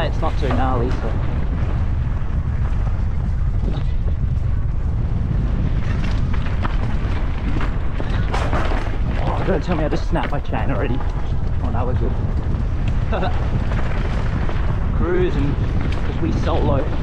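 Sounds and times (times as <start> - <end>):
bike tyre and frame rattle: 0.0 - 17.0
drivetrain clatter: 0.0 - 17.0
wind rumble on microphone: 0.0 - 17.0.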